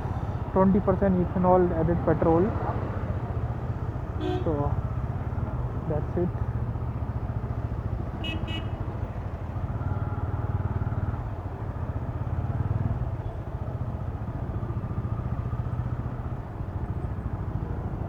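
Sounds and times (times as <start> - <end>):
motorcycle engine at low speed: 0.0 - 18.0.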